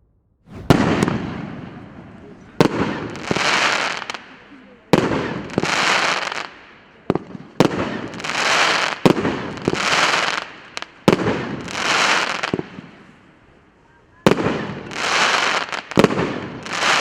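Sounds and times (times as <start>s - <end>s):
firework bangs: 0.5s - 12.9s, 14.3s - 17.0s
hissing from firework bursts: 0.6s - 17.0s.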